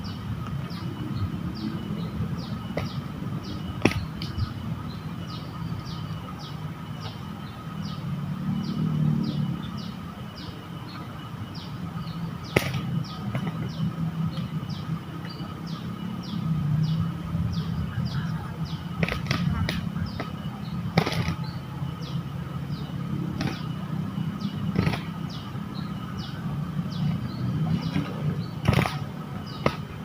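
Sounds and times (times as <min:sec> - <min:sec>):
high falling chirp: 0:00.0 - 0:30.0.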